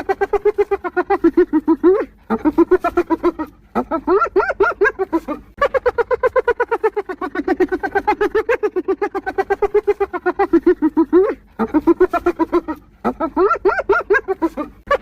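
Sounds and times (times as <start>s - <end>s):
hyena giggling laugh: 0.0s - 15.0s.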